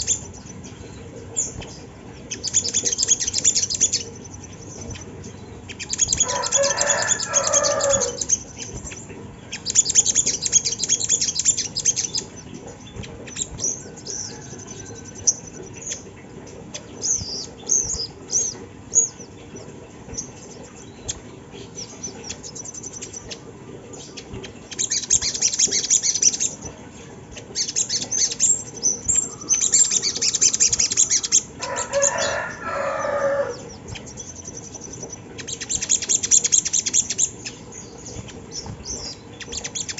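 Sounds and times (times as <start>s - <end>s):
bird high-pitched rapid chirps: 0.0s - 39.9s.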